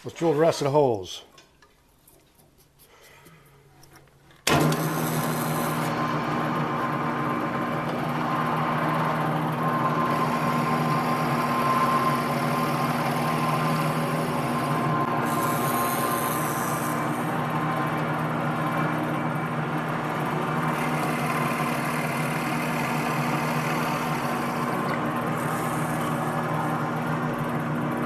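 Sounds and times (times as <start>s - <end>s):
drill press running: 4.4s - 28.0s.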